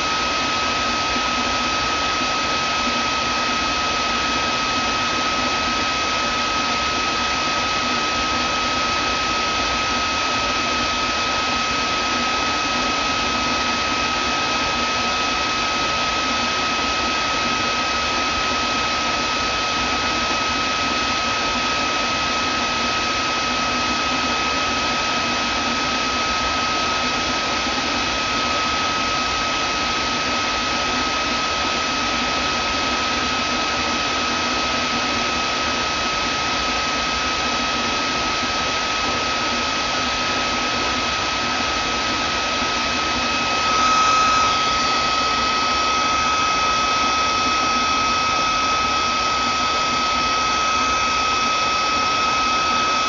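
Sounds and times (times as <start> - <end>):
vacuum cleaner motor running: 0.0 - 53.0.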